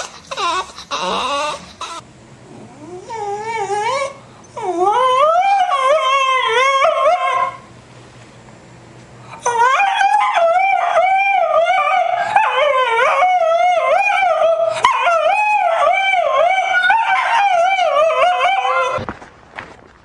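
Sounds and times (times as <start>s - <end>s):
dog howling: 0.0s - 2.0s, 2.6s - 7.7s, 9.4s - 19.0s.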